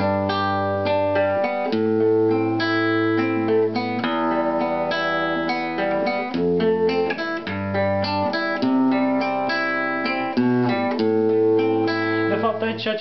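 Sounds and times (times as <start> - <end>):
acoustic guitar fingerpicked: 0.0 - 13.0.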